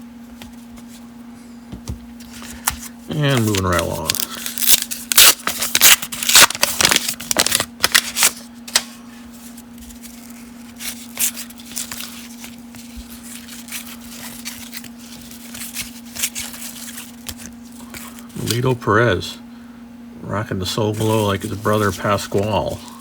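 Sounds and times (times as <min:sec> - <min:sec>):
steady low hum: 0:00.0 - 0:23.0
cards flicking and rustling: 0:01.8 - 0:18.7, 0:20.9 - 0:23.0.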